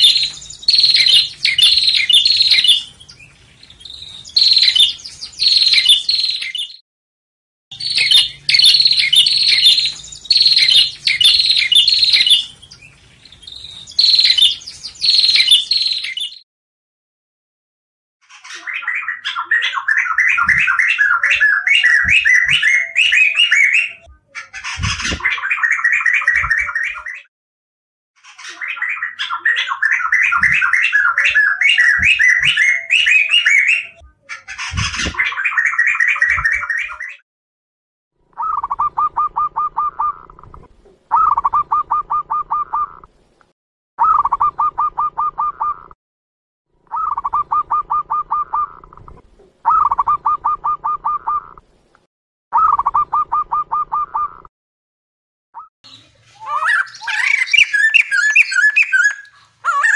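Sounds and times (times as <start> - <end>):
bird singing warbling phrases: 0.0 - 6.8, 7.7 - 16.4, 18.2 - 27.3, 28.2 - 37.2, 38.3 - 43.1, 44.0 - 46.0, 46.8 - 51.6, 52.5 - 54.5, 55.6 - 59.9.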